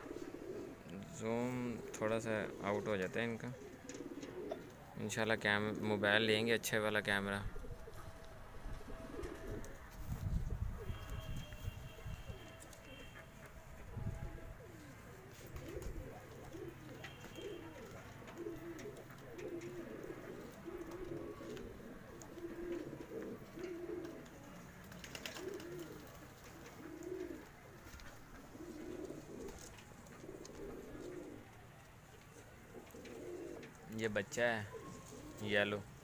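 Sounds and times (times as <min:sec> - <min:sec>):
pigeons cooing: 0:00.0 - 0:36.0.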